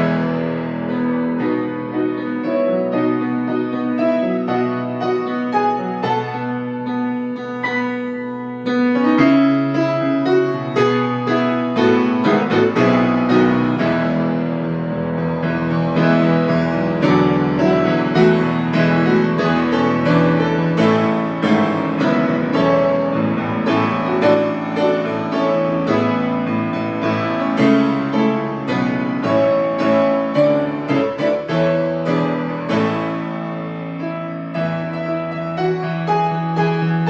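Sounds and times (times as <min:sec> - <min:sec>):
solo piano hymn: 0:00.0 - 0:37.0.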